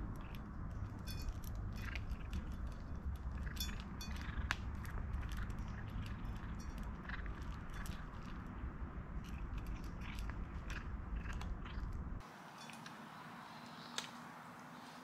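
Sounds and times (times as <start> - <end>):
cat crunching food: 0.0 - 12.2.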